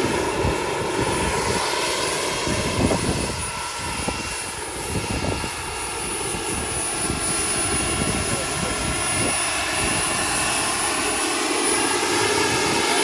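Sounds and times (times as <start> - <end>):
helicopter rotor rushing: 0.0 - 13.0
turbine high whine: 0.0 - 13.0.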